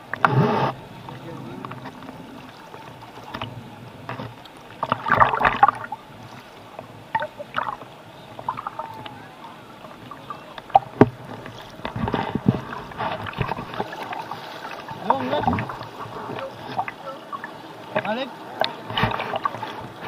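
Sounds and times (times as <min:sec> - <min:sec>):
seawater splashing and sloshing: 0:00.0 - 0:20.0.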